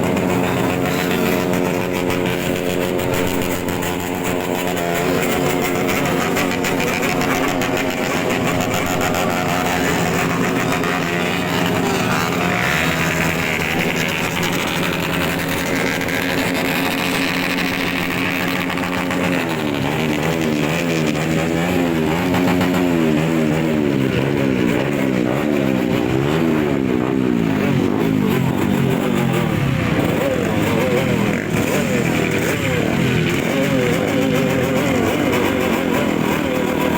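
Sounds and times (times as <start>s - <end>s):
motorcycle engines revving: 0.0s - 36.9s.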